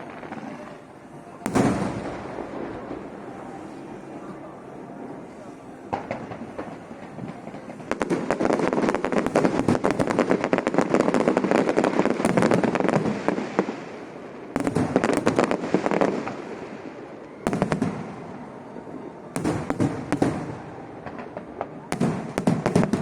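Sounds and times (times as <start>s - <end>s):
fireworks crackling bangs: 0.0s - 18.6s, 19.2s - 23.0s.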